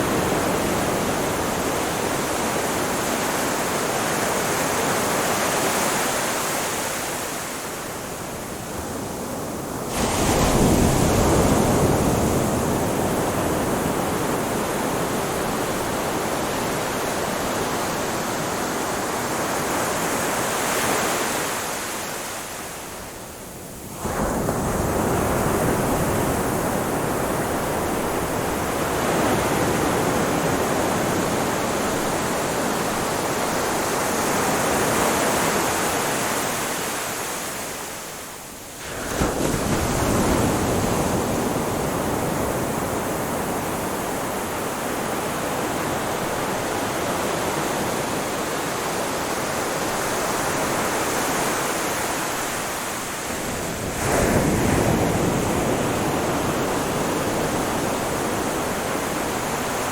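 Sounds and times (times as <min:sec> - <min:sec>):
waves breaking: 0:09.0 - 0:23.0, 0:23.9 - 0:59.9.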